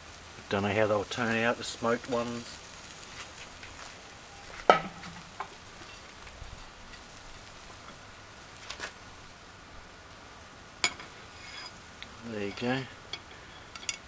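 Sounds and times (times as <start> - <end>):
kebabs sizzling on grill: 0.0 - 14.0.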